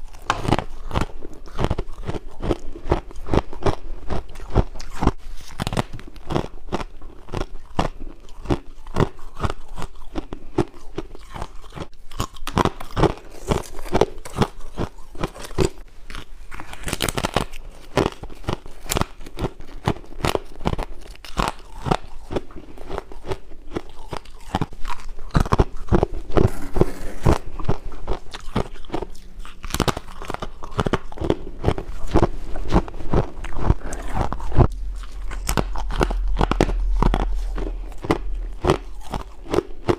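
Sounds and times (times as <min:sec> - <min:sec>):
person chewing ice crunches: 0:00.0 - 0:39.9.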